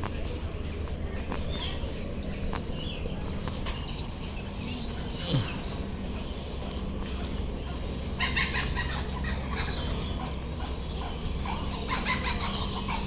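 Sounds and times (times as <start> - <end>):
low background hum: 0.0 - 13.0
birds calling in choppy bursts: 0.2 - 13.0.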